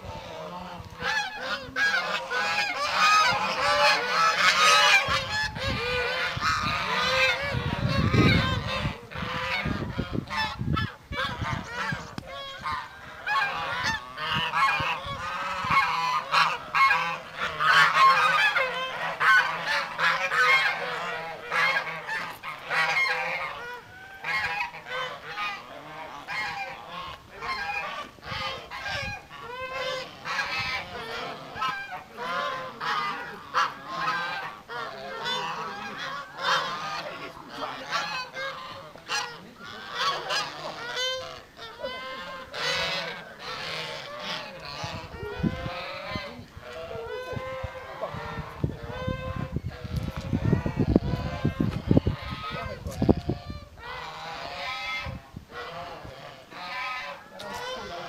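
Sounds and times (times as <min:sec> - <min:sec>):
geese honking: 0:00.0 - 0:58.0.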